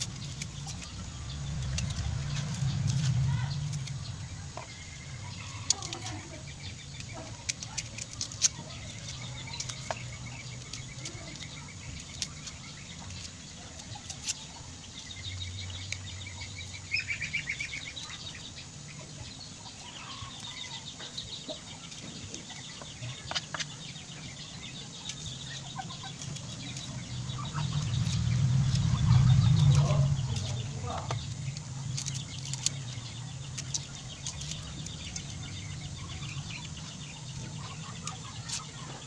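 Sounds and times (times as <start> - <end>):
birds trilling: 0.0 - 39.0
shallot skins rustling: 0.0 - 39.0.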